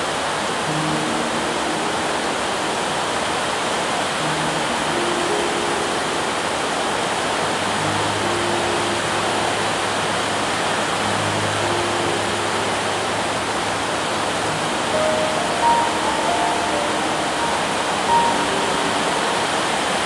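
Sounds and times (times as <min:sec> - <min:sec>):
rain on a metal roof: 0:00.0 - 0:20.0.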